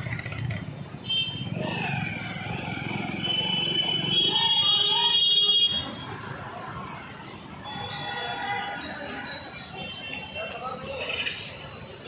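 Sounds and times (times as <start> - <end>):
voices: 1.4 - 12.0.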